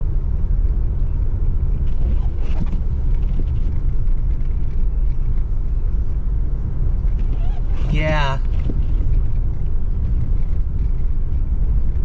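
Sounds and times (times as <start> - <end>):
car driving on slushy road: 0.1 - 12.0.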